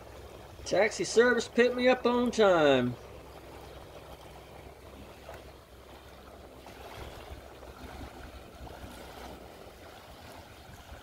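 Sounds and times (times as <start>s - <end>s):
outboard motor running: 0.0s - 11.0s
small waves lapping: 0.0s - 11.0s.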